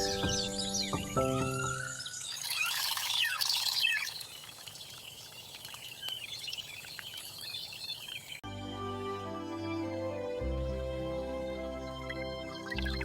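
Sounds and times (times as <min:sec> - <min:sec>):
birds chirping: 0:00.0 - 0:08.4, 0:09.1 - 0:13.0.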